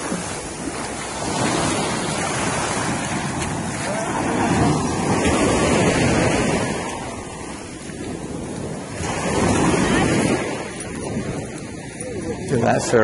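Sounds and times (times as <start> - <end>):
surf breaking on a beach: 0.0 - 13.0
wind buffeting microphone: 0.0 - 13.0.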